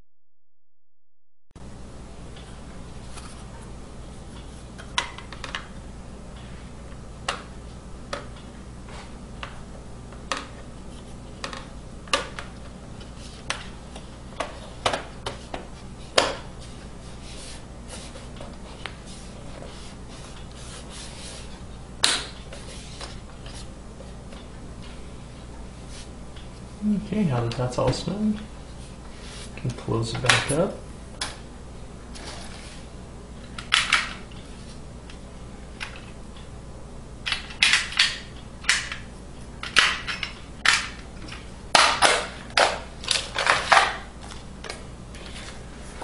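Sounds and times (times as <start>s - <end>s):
steady low hum: 1.6s - 46.0s.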